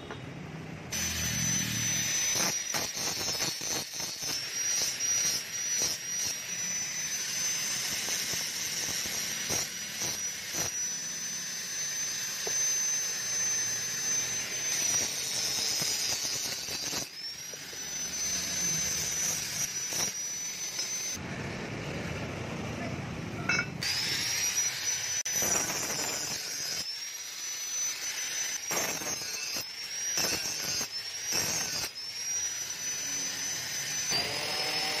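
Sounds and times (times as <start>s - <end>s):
angle grinder grinding steel: 0.9s - 21.2s, 23.5s - 35.0s.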